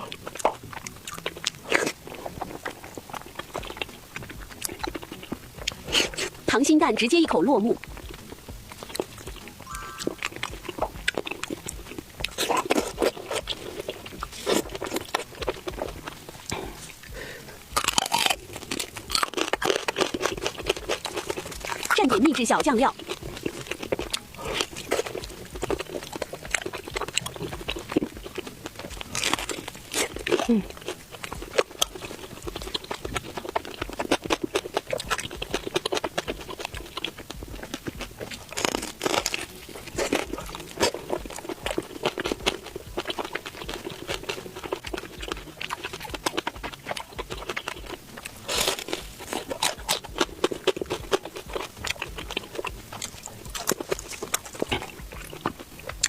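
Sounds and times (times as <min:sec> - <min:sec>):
wet mouth sounds: 0:00.0 - 0:06.6, 0:07.7 - 0:56.0
chewing and crunching fried food: 0:00.0 - 0:56.0.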